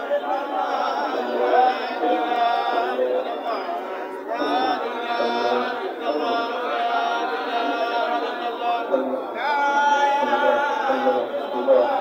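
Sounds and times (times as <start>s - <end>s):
man chanting: 0.0s - 3.7s, 4.3s - 12.0s.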